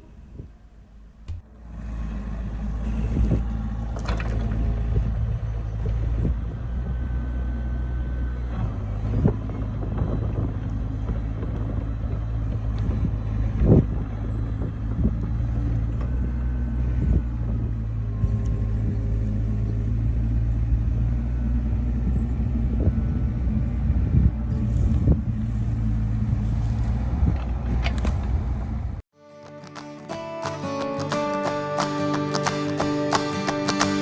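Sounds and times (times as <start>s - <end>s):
diesel engine running: 0.0s - 29.0s
knocks and clunks of logs: 1.2s - 29.0s.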